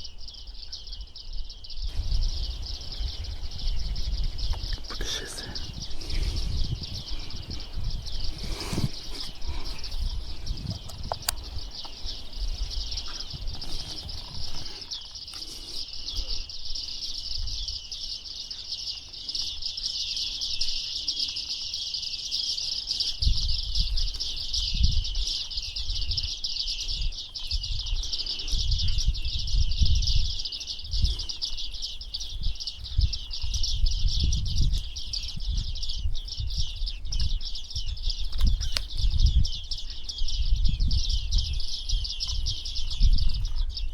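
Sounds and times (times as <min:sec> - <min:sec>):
small birds chattering: 0:00.0 - 0:43.9.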